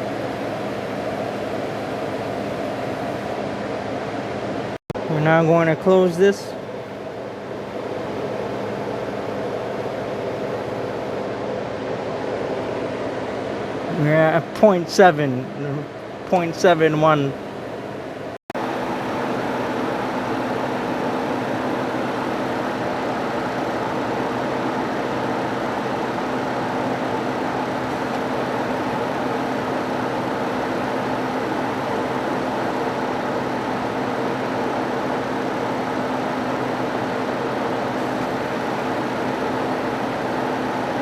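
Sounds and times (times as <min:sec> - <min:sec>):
car air conditioning whir: 0:00.0 - 0:41.0.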